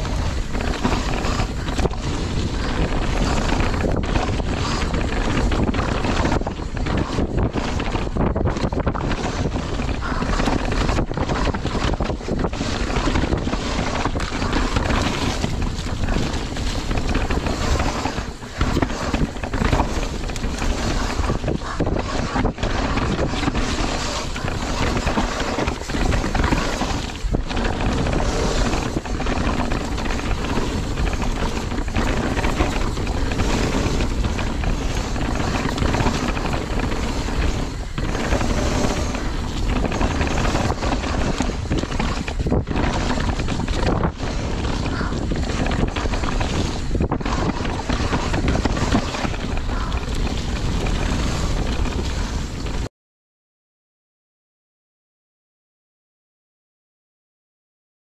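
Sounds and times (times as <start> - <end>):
bike knocking and rattling: 0.0 - 52.9
tyres scrubbing over loose dirt: 0.0 - 52.9
wind buffeting microphone: 0.0 - 52.9.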